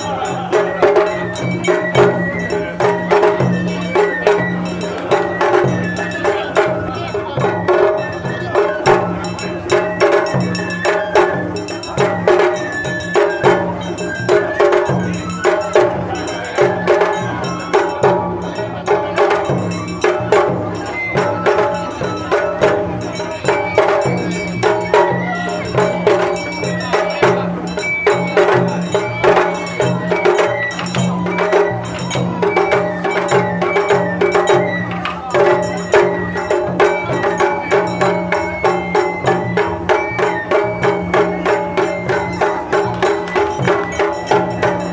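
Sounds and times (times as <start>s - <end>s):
festival drums and percussion: 0.0s - 44.9s.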